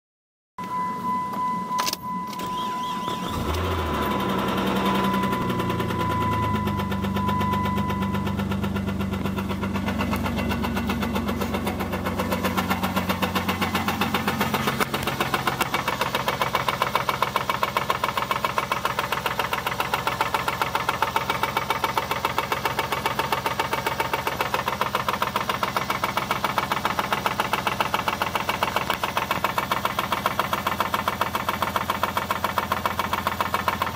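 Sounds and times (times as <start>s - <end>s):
car engine cranking and idling: 0.6s - 33.9s
rhythmic engine knock: 5.0s - 33.9s.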